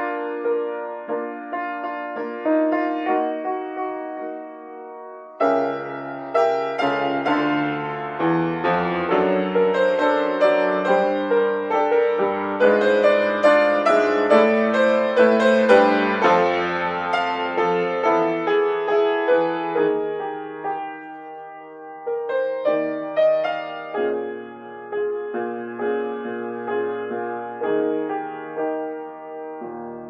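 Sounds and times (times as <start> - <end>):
solo piano playing: 0.0 - 30.0.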